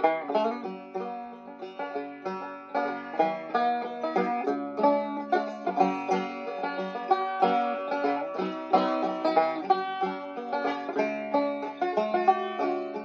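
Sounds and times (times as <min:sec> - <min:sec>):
fast plucked banjo: 0:00.0 - 0:13.0.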